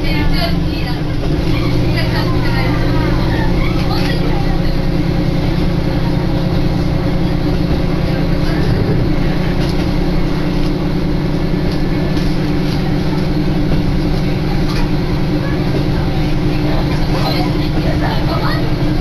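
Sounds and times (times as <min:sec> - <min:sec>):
railcar engine drone: 0:00.0 - 0:19.0
wheel and rail noise: 0:00.0 - 0:19.0.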